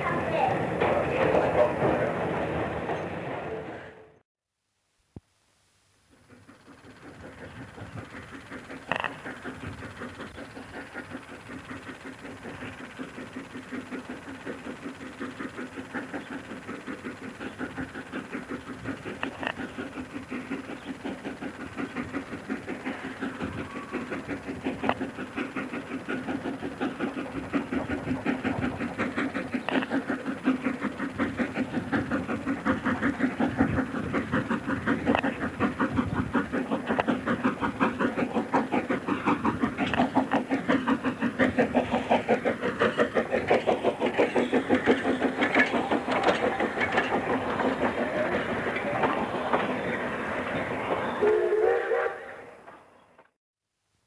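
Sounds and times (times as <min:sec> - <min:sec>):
steam locomotive chuffing: 0:00.0 - 0:04.2, 0:05.9 - 0:53.4.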